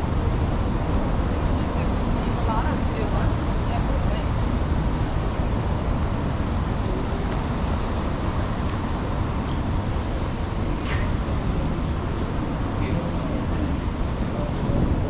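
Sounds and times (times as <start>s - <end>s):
low rumble of traffic: 0.0s - 15.0s
wind on microphone: 0.0s - 15.0s.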